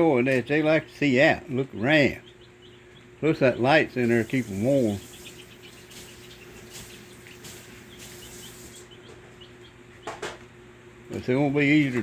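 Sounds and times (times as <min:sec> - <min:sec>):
chicks chirping softly: 0:00.0 - 0:12.0
steady low hum: 0:00.0 - 0:12.0.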